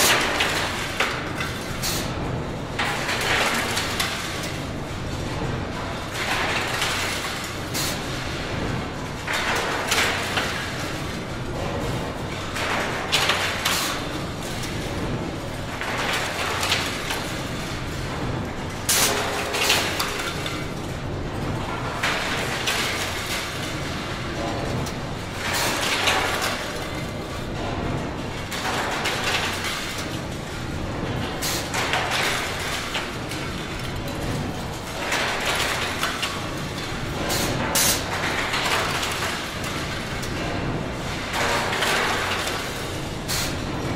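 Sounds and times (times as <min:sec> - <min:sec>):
machinery rumble with low hum: 0:00.0 - 0:43.9.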